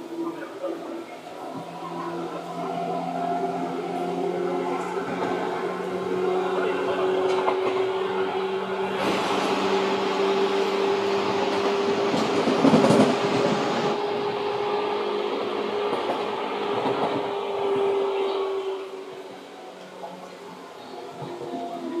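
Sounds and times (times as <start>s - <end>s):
electric train hum: 0.0s - 22.0s
wheel and rail rumble: 0.0s - 22.0s
rush of noise: 0.6s - 19.1s.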